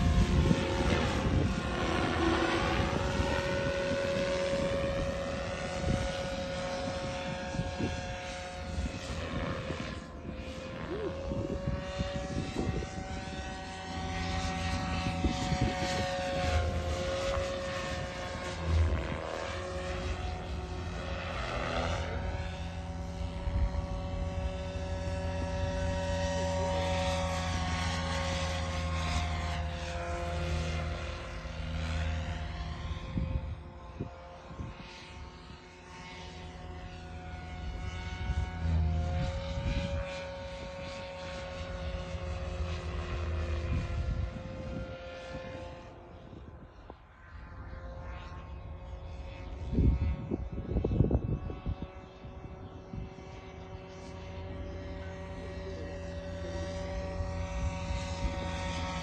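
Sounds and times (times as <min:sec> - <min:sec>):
rc helicopter high whine: 0:00.0 - 0:59.0.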